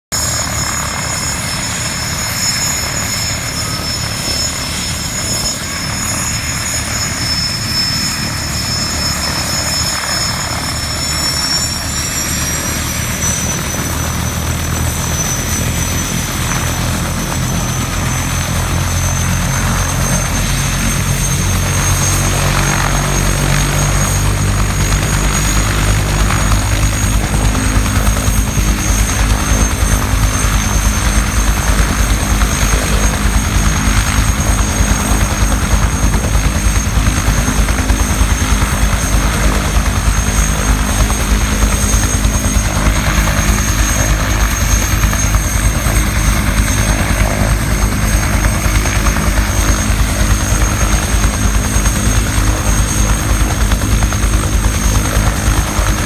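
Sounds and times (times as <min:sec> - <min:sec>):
helicopter rotor beat: 0:00.1 - 0:56.0
helicopter turbine whine: 0:00.1 - 0:56.0.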